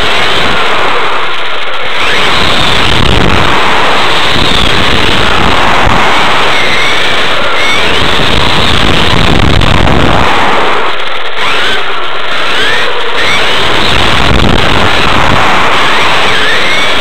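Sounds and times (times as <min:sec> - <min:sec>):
electric motor whine: 0:00.0 - 0:17.0
low rumble: 0:00.0 - 0:17.0
rc car wind and tyre rush: 0:00.0 - 0:17.0.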